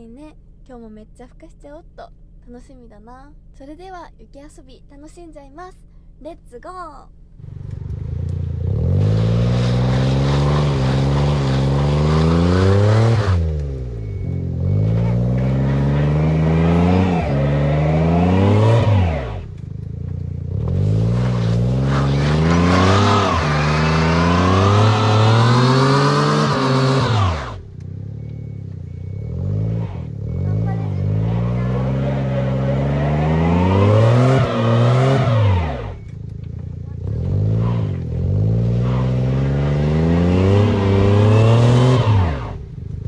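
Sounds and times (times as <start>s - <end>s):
car engine revving: 7.4s - 43.0s.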